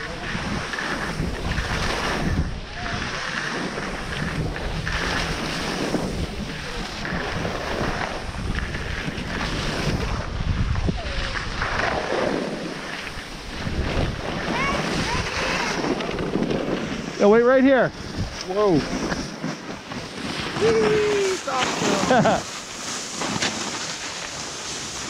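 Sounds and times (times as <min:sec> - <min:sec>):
wind buffeting microphone: 0:00.0 - 0:23.1
skis scraping on packed snow: 0:00.0 - 0:25.0.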